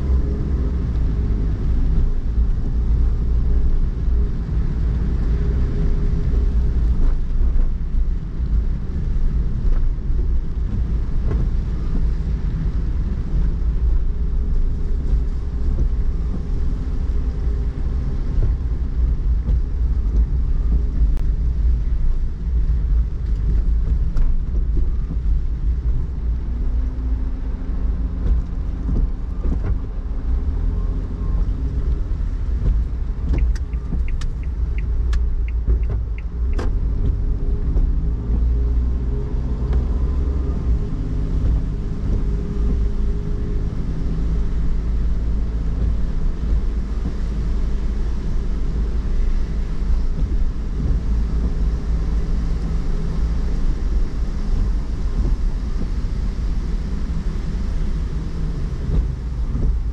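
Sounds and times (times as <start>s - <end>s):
car engine and tyres on wet road: 0.0s - 59.9s.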